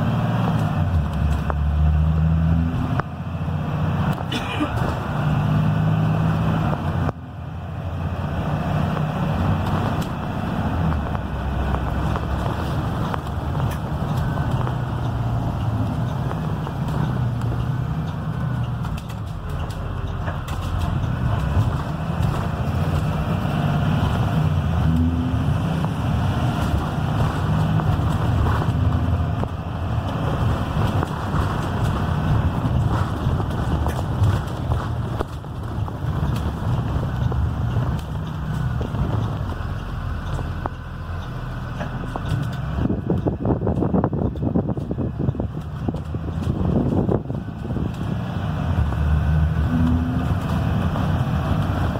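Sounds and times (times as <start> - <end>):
bus diesel engine running: 0.0 - 51.9
road noise: 0.0 - 51.9.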